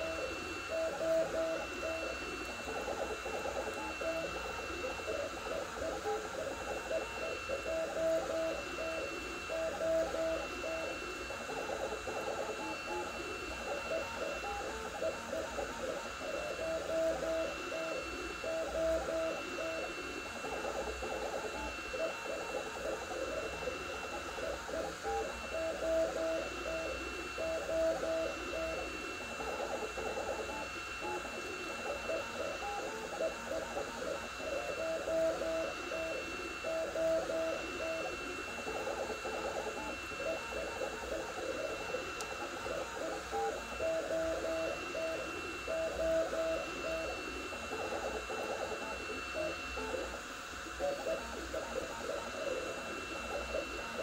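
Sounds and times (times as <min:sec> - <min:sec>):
printer stepper motors whirring: 0:00.0 - 0:54.0
thin high whine: 0:00.0 - 0:54.0.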